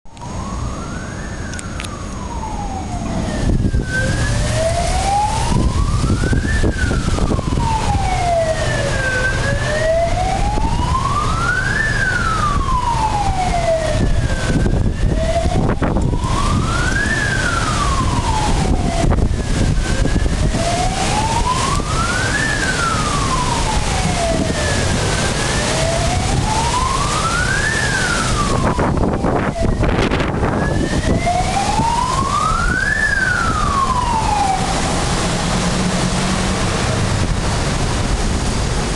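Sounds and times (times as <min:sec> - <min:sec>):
fire engine siren wailing: 0:00.1 - 0:38.9
heavy low rumble: 0:00.1 - 0:38.9.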